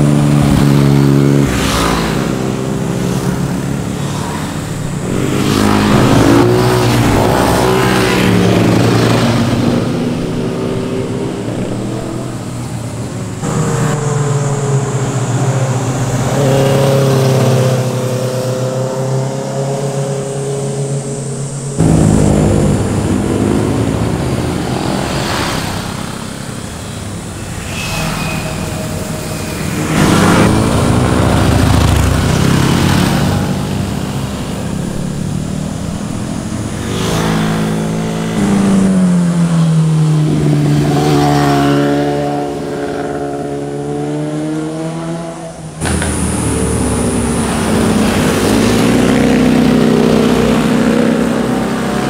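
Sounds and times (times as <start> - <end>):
motorcycles revving past: 0.0 - 52.0.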